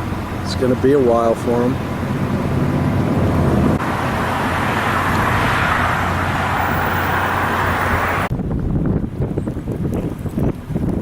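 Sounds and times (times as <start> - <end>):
vehicle engine hum and tyre rumble: 0.0 - 11.0
wind buffeting microphone: 0.0 - 11.0.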